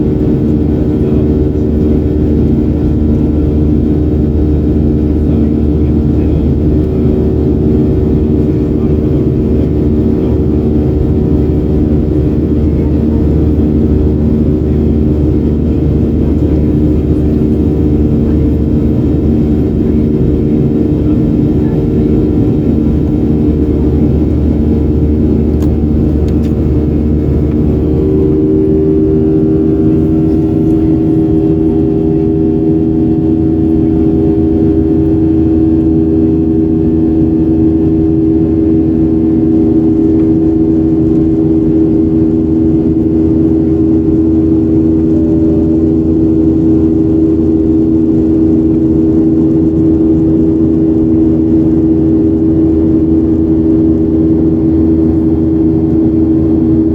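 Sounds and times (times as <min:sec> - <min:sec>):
jet engines in cabin: 0:00.0 - 0:56.9.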